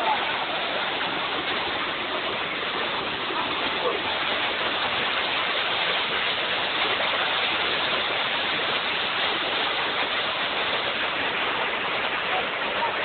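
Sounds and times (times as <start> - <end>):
waterfall rushing onto rocks: 0.0 - 13.0.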